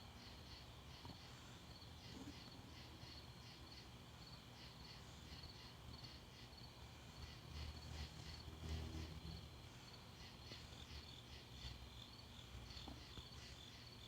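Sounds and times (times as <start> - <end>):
insect chirping: 0.1 - 14.0.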